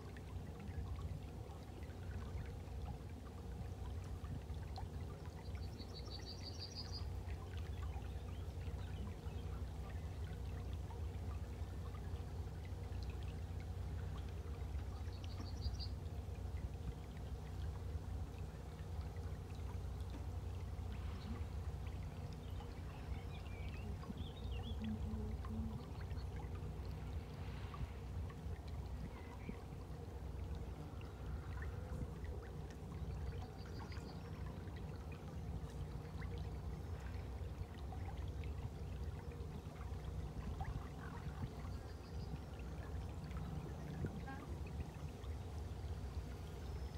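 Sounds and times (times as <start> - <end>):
low steady rumble: 0.0 - 46.9
water rippling and splashing: 0.0 - 46.9.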